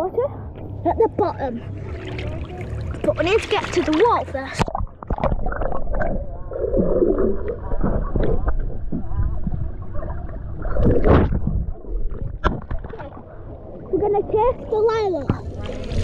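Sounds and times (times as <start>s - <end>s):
bubbling: 1.3s - 16.0s
underwater rumbling water: 1.5s - 16.0s.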